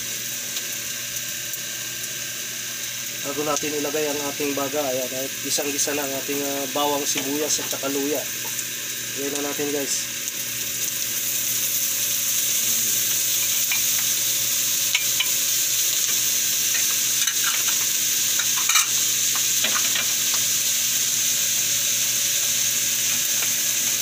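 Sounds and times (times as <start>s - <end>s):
meat sizzling in a wok: 0.0s - 24.0s.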